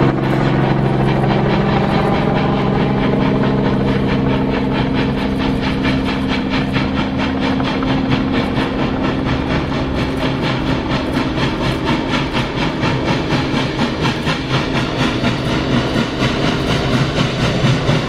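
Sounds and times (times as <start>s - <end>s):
steam locomotive exhaust beating: 0.0s - 18.0s
train running noise: 0.0s - 18.0s.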